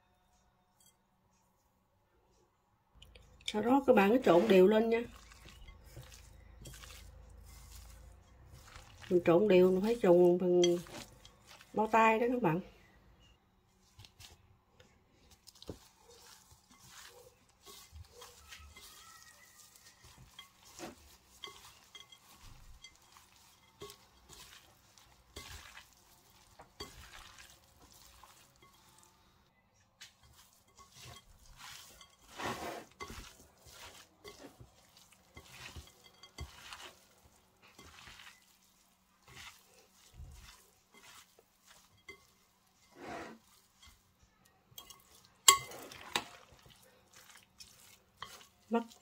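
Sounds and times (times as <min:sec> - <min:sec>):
rustling of hand mixing filling: 0:03.0 - 0:49.0
utensil clinking glass bowl: 0:03.1 - 0:12.2, 0:15.4 - 0:29.2, 0:30.0 - 0:49.0.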